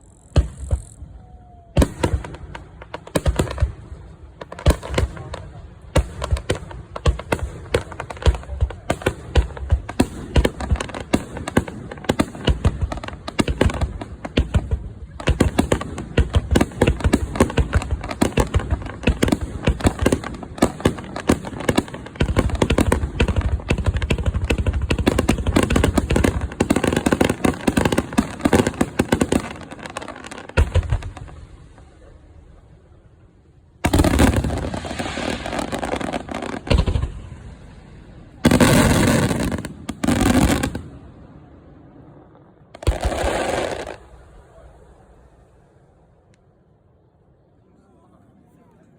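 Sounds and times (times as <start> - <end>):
fireworks bursting and crackling: 0.0 - 46.4.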